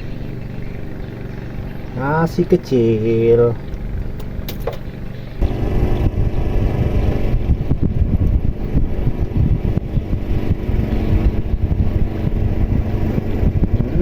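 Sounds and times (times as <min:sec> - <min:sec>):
boat engine throbbing: 0:00.0 - 0:14.0.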